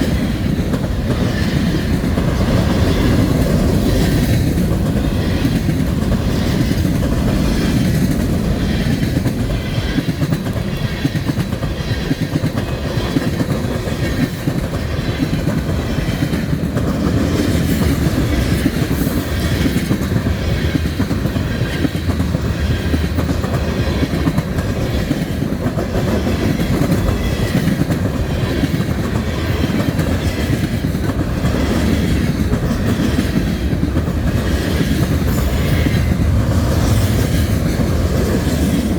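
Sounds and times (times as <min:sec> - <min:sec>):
low train rumble: 0:00.0 - 0:38.9
wheels clicking over rail joints: 0:00.0 - 0:38.9.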